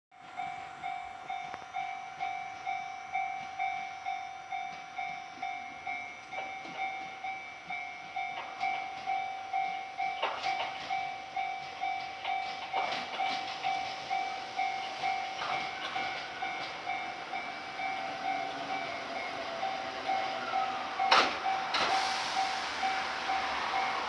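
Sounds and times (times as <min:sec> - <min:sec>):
level crossing warning bell: 0:00.2 - 0:24.0.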